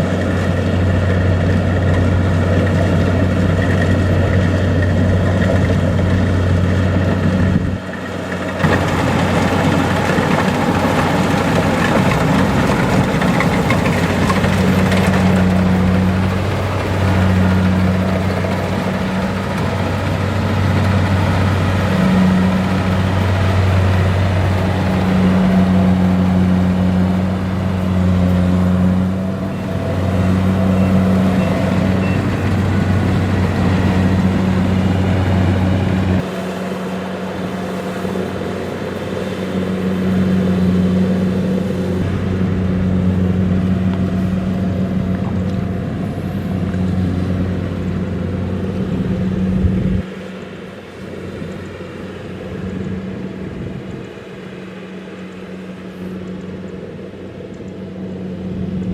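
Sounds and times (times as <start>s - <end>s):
combine harvester diesel engine: 0.0s - 58.9s.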